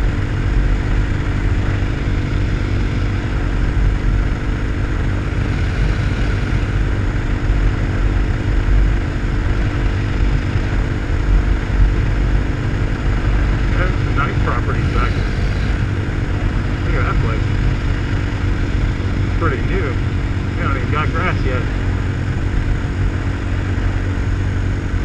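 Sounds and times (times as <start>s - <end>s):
motorcycle engine running: 0.0s - 25.0s
wind rumble on microphone: 0.0s - 25.0s.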